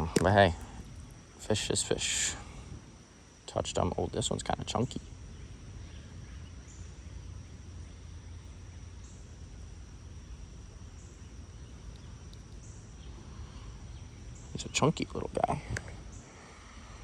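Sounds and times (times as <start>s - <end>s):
insects trilling: 0.0s - 17.0s
low rumble and hiss: 0.0s - 17.0s.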